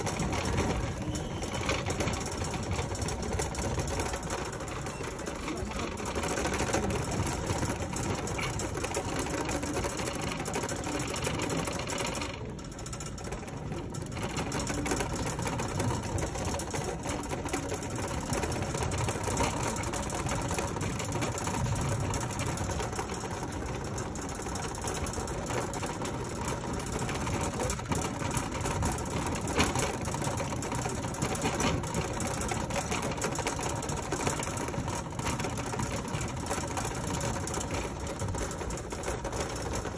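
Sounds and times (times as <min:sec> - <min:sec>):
shopping cart rattling on hard floor: 0:00.0 - 0:39.9.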